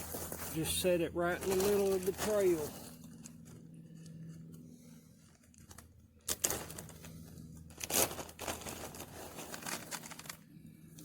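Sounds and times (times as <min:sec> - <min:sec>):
scraping rustles: 0:00.0 - 0:04.5, 0:05.4 - 0:10.5
rustling and crinkling handling: 0:00.0 - 0:04.6, 0:05.2 - 0:11.0
steady low hum: 0:00.0 - 0:11.0.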